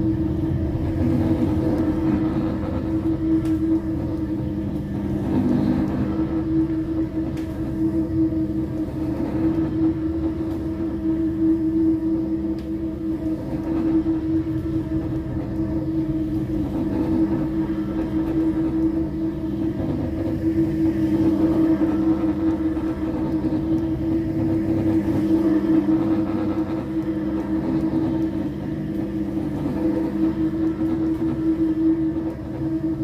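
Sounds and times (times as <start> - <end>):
floor polishing machine humming: 0.0 - 33.0.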